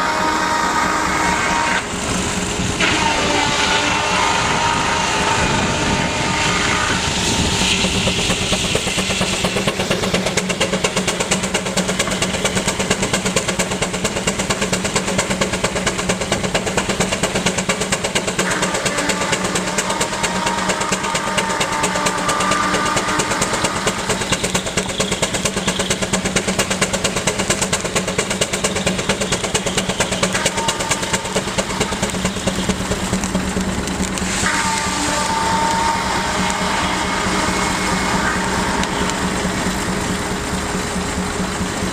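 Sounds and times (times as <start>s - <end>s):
sawmill machinery humming: 0.0s - 41.9s
steam engine exhaust beating: 0.0s - 41.9s.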